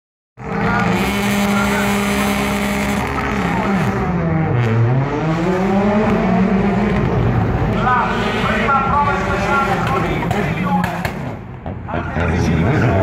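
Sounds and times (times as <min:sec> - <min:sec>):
rally car engine at high revs: 0:00.4 - 0:11.4.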